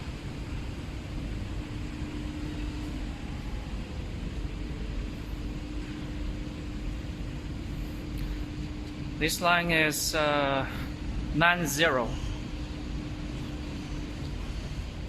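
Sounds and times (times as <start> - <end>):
factory machinery drone: 0.0 - 15.0.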